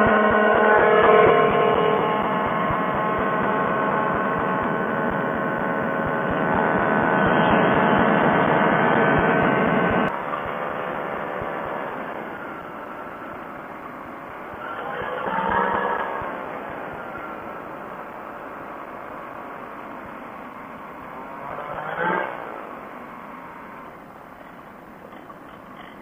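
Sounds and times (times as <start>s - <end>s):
ultralight aircraft engine droning: 0.0s - 26.0s.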